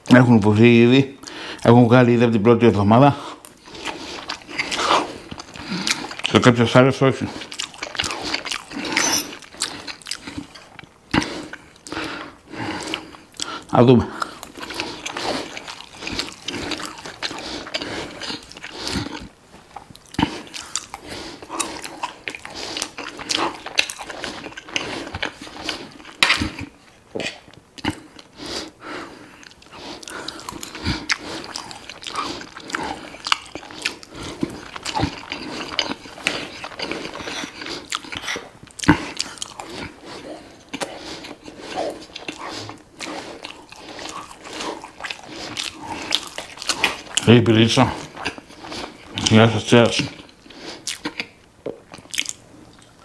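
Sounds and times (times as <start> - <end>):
close chewing and biting: 3.3 - 53.0.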